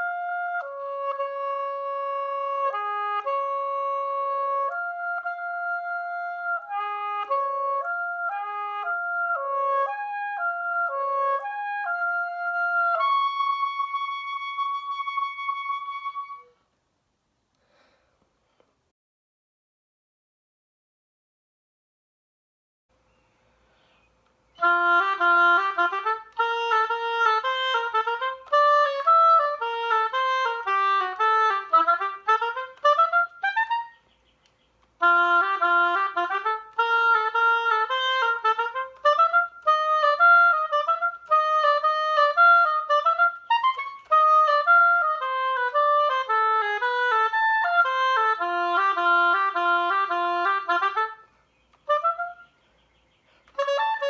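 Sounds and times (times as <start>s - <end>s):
solo oboe melody: 0.0s - 16.7s, 24.5s - 54.0s.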